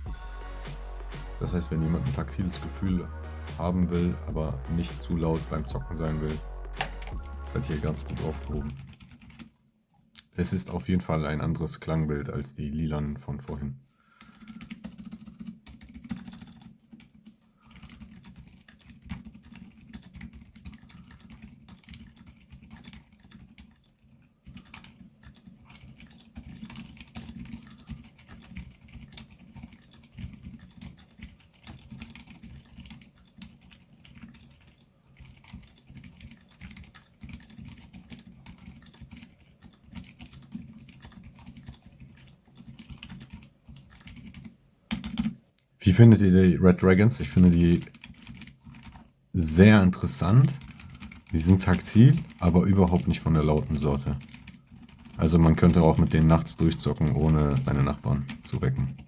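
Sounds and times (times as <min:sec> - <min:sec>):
mechanical keyboard typing: 0:01.5 - 0:09.5, 0:14.2 - 0:45.4, 0:46.0 - 0:59.0.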